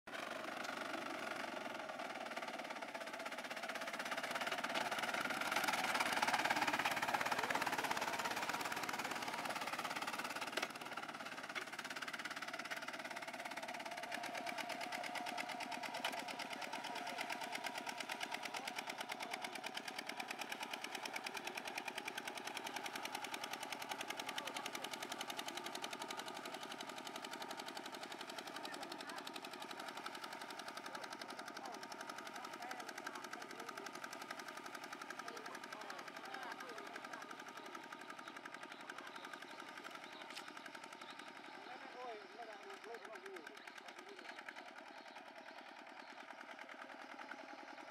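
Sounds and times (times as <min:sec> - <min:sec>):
diesel engine running: 0:00.1 - 0:47.9.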